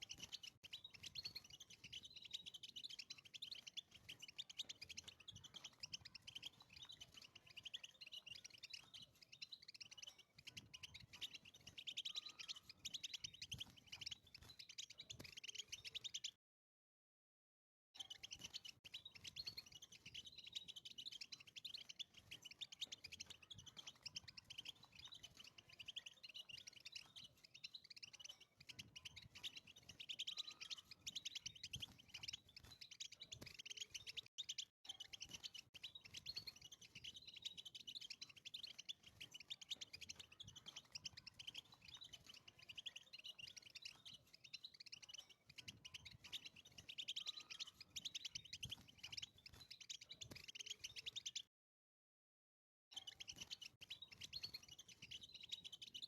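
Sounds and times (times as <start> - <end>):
bird twittering song: 0.0 - 16.4, 18.0 - 51.5, 52.9 - 56.0.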